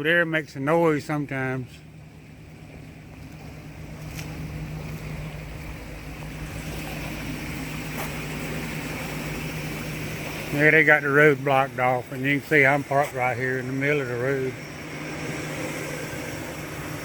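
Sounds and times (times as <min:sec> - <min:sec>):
steady low hum: 0:00.0 - 0:17.0
floodwater rushing into pipe: 0:01.0 - 0:17.0.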